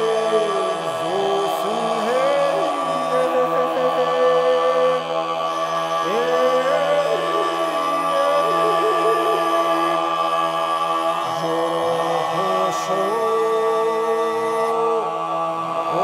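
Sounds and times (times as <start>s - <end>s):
steady high tone: 0.0s - 13.3s
solo voice singing ornamented melody: 0.0s - 15.1s
low voices holding a drone: 0.0s - 15.3s.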